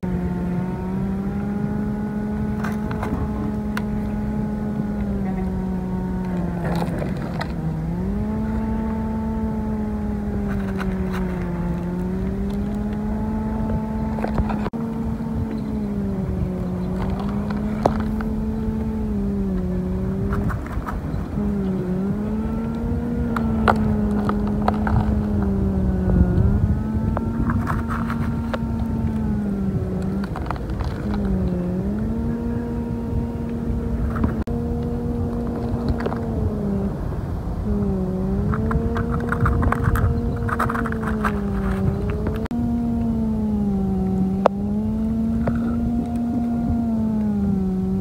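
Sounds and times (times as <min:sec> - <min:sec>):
small electric motor whining: 0:00.0 - 0:48.0
gravel and stones clicking: 0:01.4 - 0:37.0, 0:37.7 - 0:48.0.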